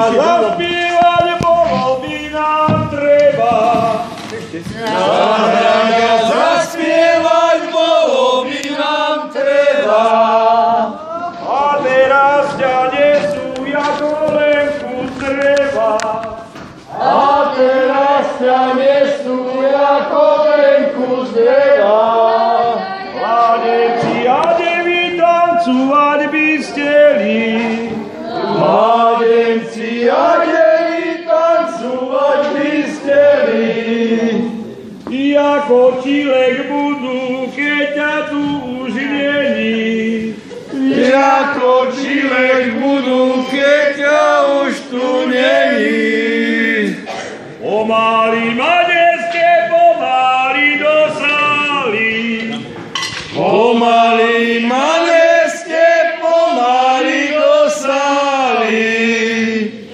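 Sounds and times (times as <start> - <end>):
group singing a slow lament: 0.0 - 59.9.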